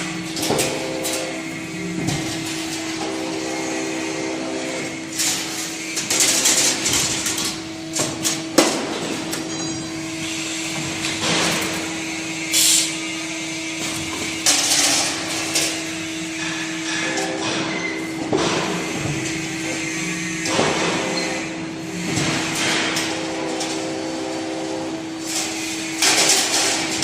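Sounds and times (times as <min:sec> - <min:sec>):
machine steady hum: 0:00.0 - 0:27.0.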